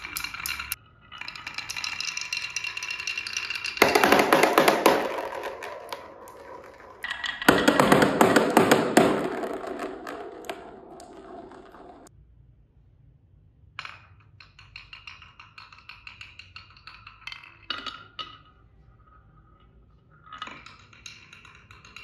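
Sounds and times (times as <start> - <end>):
marbles clattering down wooden run: 0.0 - 12.1, 14.4 - 18.5, 20.2 - 22.0.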